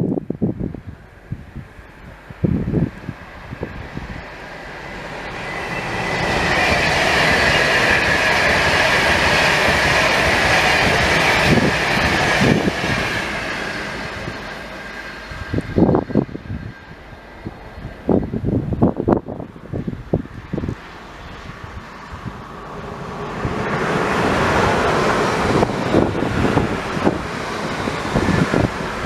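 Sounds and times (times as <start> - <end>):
wind buffeting microphone: 0.0 - 29.0
train rushing past: 0.4 - 29.0.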